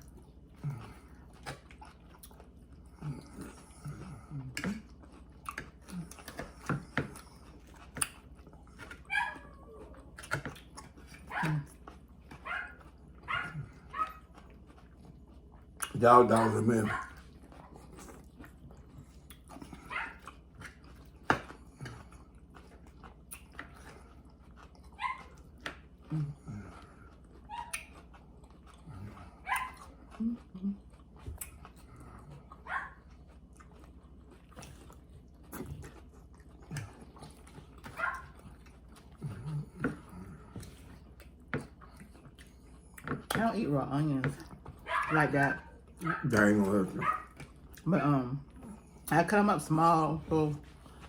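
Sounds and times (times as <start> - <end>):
person chewing salad: 0.0 - 49.1, 50.6 - 51.0.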